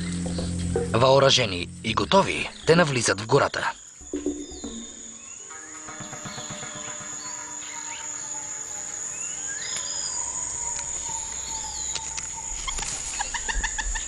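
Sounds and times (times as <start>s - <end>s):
bird calls: 0.0s - 1.0s, 2.0s - 14.0s
insect drone: 0.0s - 14.0s.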